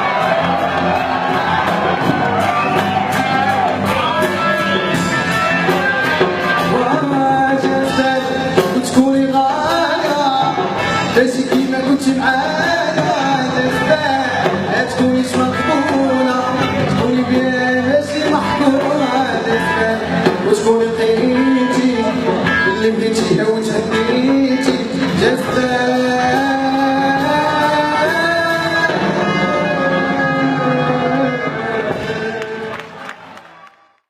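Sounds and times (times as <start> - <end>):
drum strikes: 0.0 - 29.5
live band playing: 0.0 - 34.0
person singing: 2.8 - 34.0.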